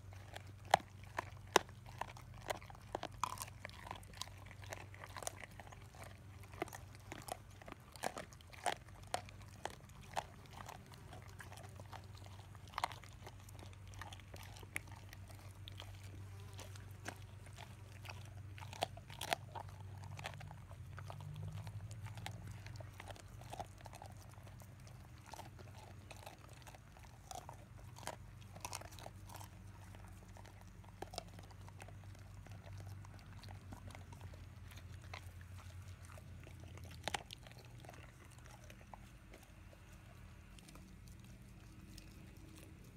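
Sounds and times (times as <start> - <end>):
dogs chewing wet crunching: 0.0 - 42.9.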